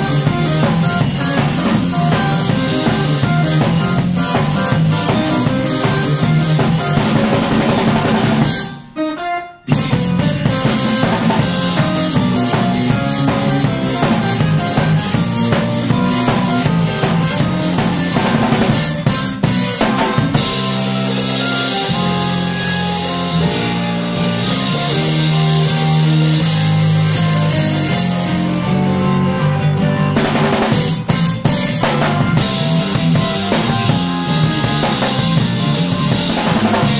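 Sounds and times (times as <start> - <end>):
drum kit: 0.0 - 36.9
electric bass: 0.0 - 36.9
live band music: 0.0 - 36.9.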